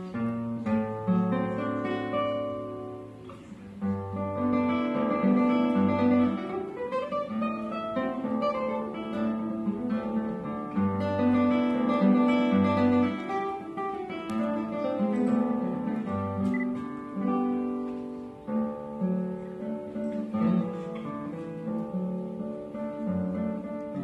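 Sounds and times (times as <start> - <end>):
solo classical guitar: 0.0 - 24.0.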